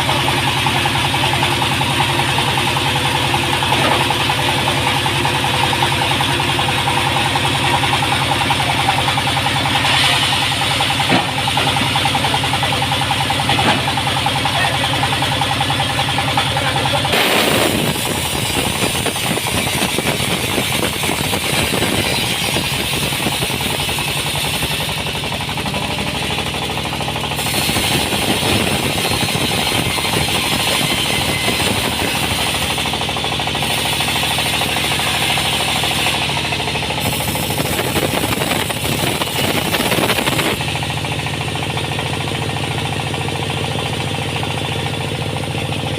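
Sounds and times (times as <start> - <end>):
sawmill saw running: 0.0 - 45.9.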